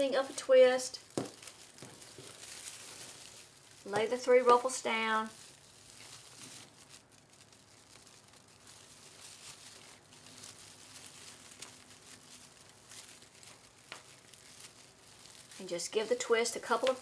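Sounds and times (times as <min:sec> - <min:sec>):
fabric mesh rustling and crinkling: 0:00.0 - 0:17.0.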